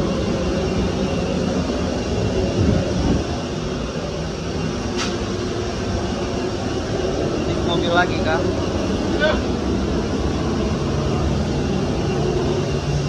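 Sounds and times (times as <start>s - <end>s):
aircraft and ground equipment hum: 0.0s - 13.0s.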